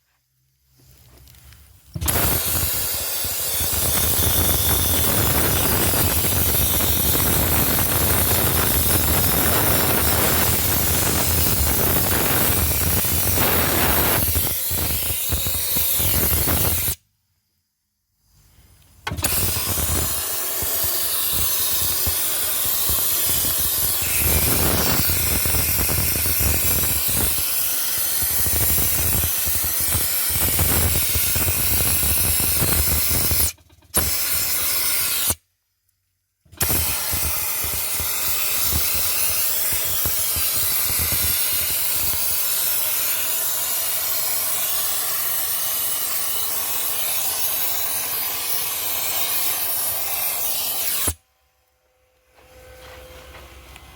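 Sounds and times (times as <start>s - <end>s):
dry ice blaster hissing: 1.9s - 17.0s, 19.1s - 35.4s, 36.5s - 51.2s.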